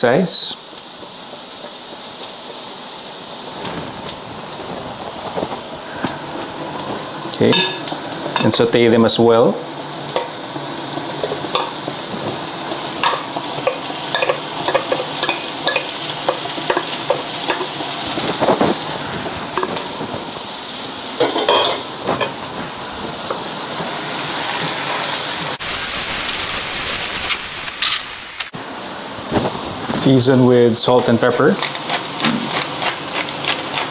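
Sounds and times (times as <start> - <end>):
onions sizzling in a frying pan: 0.0 - 33.9.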